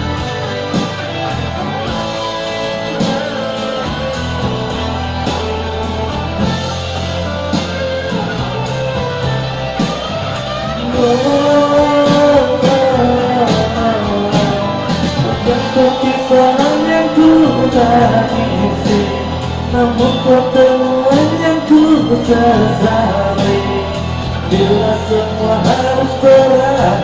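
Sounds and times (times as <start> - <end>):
band music with guitar: 0.0 - 27.0
sustained melody line: 0.0 - 27.0.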